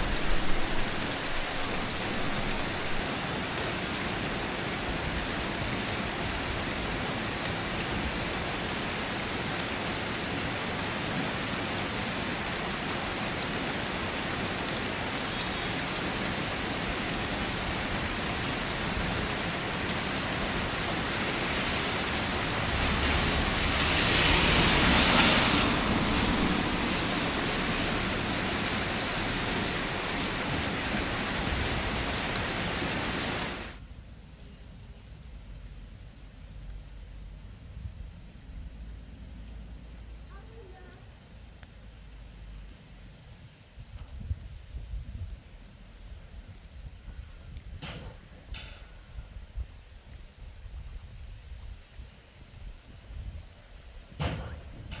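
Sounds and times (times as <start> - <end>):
rain falling into water: 0.0 - 55.0.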